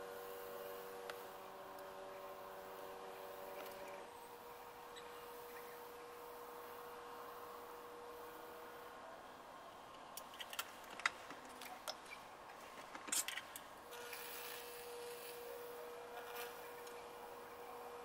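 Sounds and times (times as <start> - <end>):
faint electrical buzz: 0.0 - 18.0.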